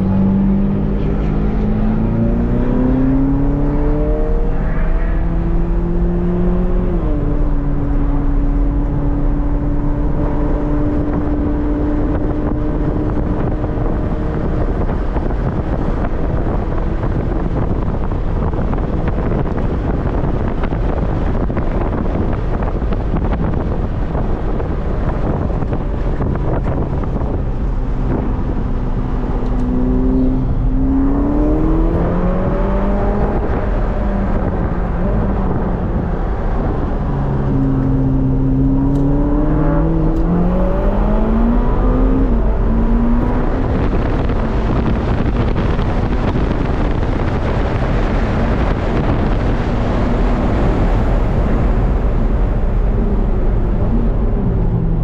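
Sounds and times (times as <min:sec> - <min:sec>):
car engine: 0:00.0 - 0:55.0
road noise rushing: 0:00.0 - 0:55.0.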